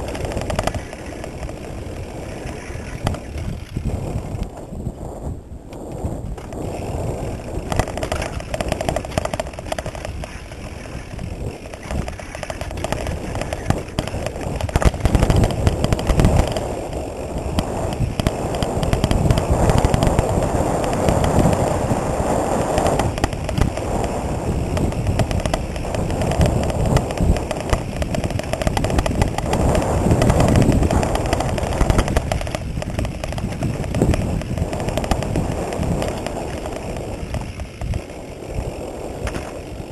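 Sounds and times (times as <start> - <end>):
tyre noise on dirt: 0.0 - 5.2, 5.8 - 39.9
bike rattling on rough trail: 0.0 - 39.9.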